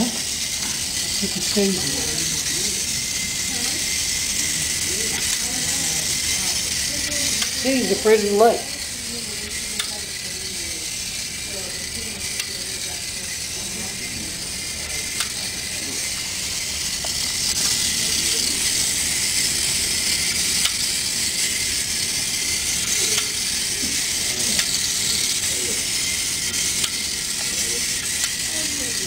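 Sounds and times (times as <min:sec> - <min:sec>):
robot motors whirring: 0:00.0 - 0:29.0.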